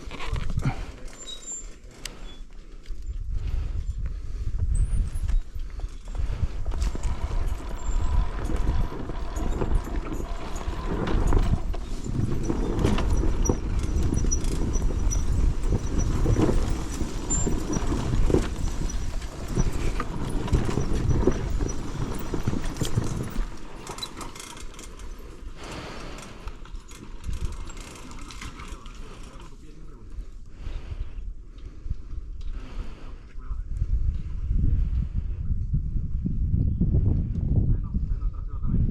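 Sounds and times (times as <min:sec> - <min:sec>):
dirt bike engine rumble: 0:00.0 - 0:31.2.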